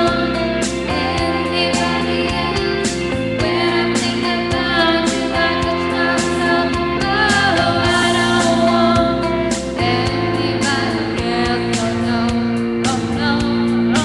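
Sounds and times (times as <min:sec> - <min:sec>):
pop backing track: 0:00.0 - 0:14.0
woman singing karaoke: 0:00.0 - 0:14.0.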